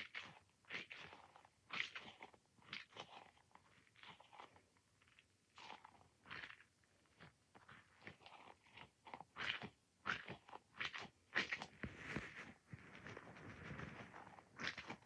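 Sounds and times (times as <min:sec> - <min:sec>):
squishy toy ball squishing: 0:00.0 - 0:15.0.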